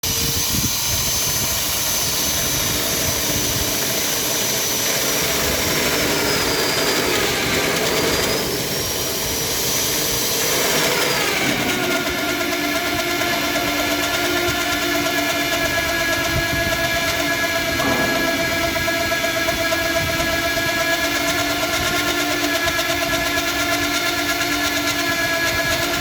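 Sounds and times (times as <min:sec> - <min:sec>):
core drill motor whining: 0:00.1 - 0:26.0.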